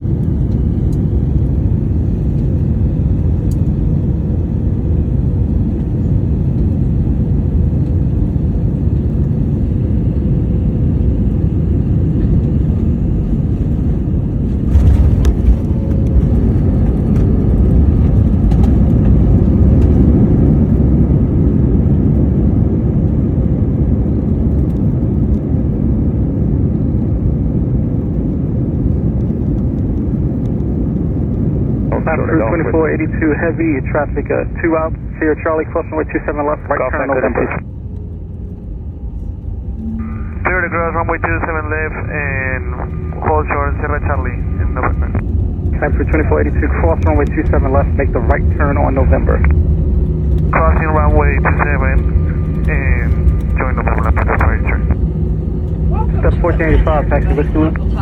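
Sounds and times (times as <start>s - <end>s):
jet airliner rumble: 0.0s - 58.0s.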